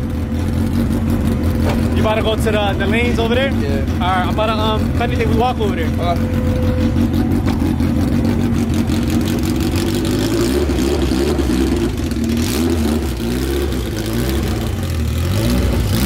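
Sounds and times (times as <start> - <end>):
car engine at low revs: 0.0 - 16.0.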